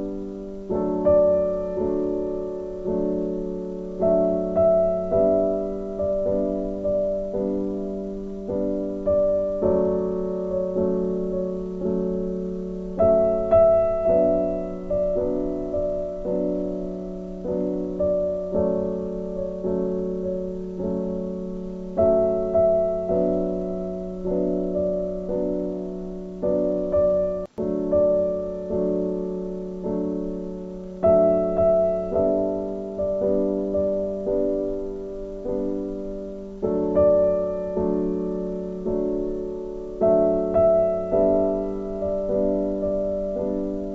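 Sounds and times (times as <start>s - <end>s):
gentle piano music: 0.0s - 43.9s.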